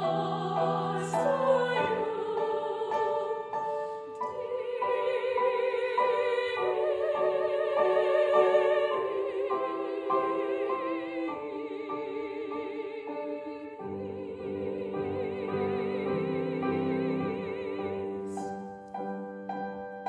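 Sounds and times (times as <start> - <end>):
women's choir singing: 0.0 - 19.8
piano accompaniment: 0.0 - 20.0.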